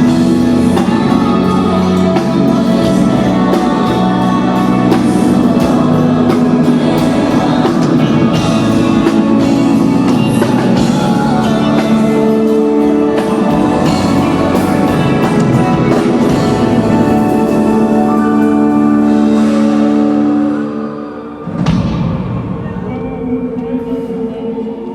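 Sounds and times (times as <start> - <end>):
music with held chords: 0.0 - 22.1
person singing: 0.0 - 24.9.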